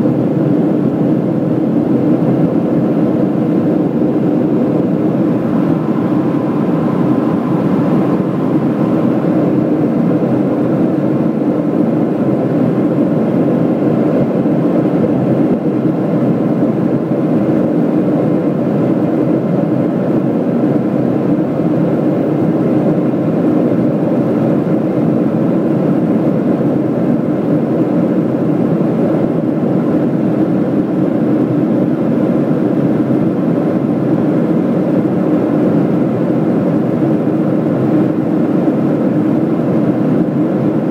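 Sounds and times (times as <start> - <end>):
jet engine and airflow drone: 0.0 - 40.9.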